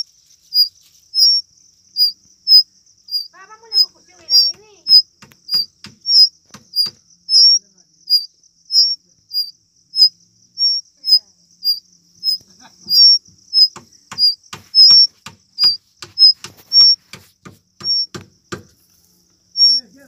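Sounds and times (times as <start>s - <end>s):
fledgling birds chirping: 0.0s - 20.0s.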